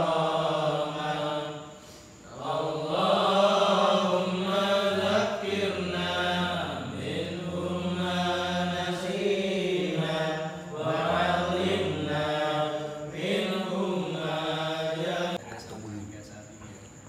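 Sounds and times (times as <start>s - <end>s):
men chanting in unison: 0.0s - 15.4s.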